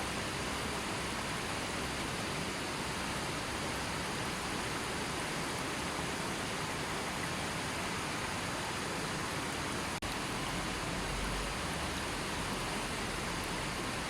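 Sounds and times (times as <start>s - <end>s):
gently flowing river: 0.0s - 14.0s.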